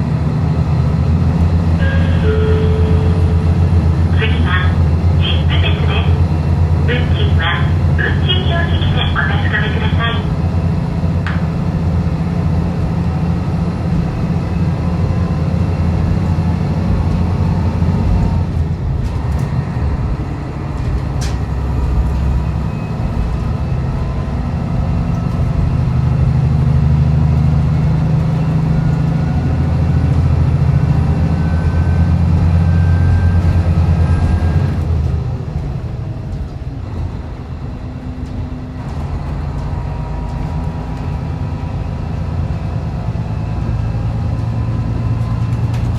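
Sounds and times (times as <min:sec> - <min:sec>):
railcar engine drone: 0:00.0 - 0:45.9.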